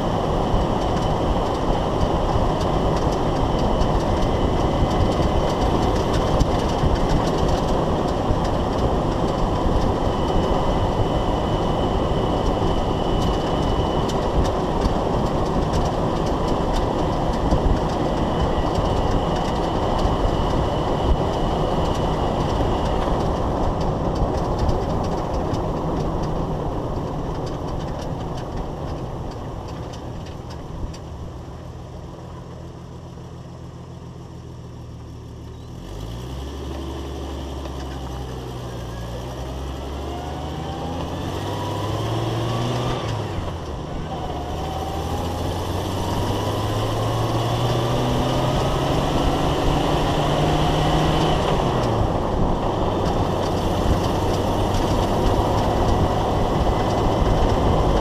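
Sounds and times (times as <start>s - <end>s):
road and drivetrain rumble: 0.0s - 58.0s.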